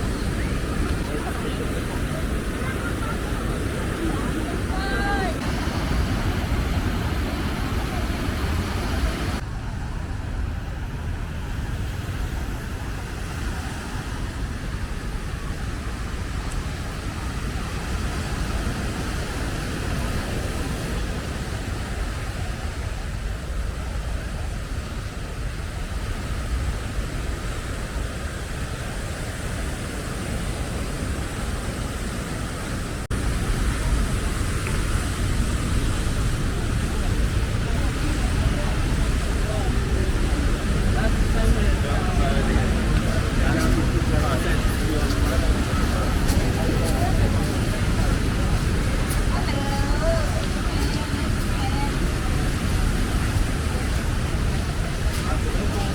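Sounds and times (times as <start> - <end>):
faint voices: 0.0 - 55.9
ocean surf: 0.0 - 55.9
wind rumbling on microphone: 0.0 - 55.9.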